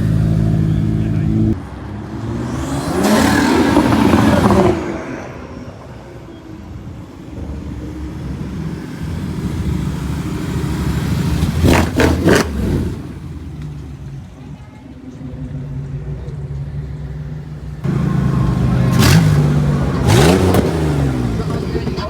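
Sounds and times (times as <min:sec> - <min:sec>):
car passing loudly: 0:00.0 - 0:13.6, 0:17.6 - 0:22.0
car engines accelerating: 0:00.0 - 0:14.5, 0:15.1 - 0:22.0.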